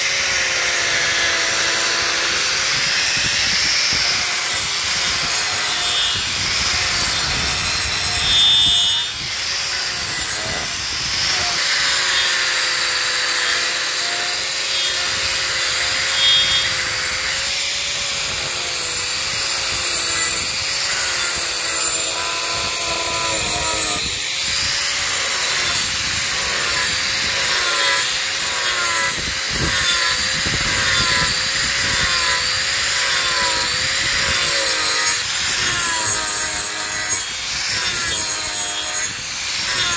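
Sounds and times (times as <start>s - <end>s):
angle grinder motor whine: 0.0s - 39.9s
disc rasping through wood: 0.0s - 39.9s.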